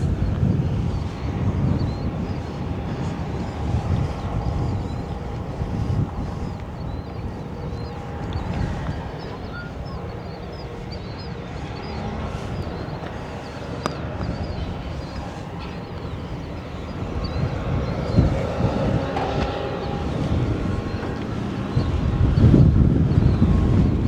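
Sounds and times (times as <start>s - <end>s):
birds chirping: 0.0s - 24.0s
wind buffeting microphone: 0.0s - 24.0s.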